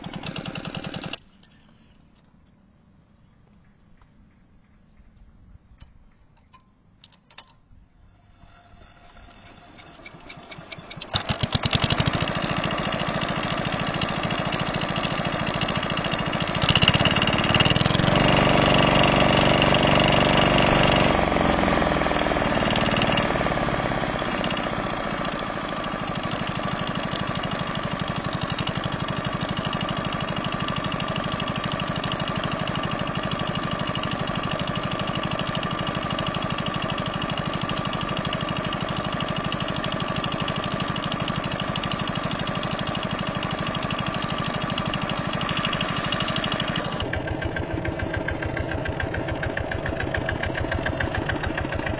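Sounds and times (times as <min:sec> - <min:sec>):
diesel tractor engine running: 0:00.0 - 0:01.2, 0:08.2 - 0:51.9.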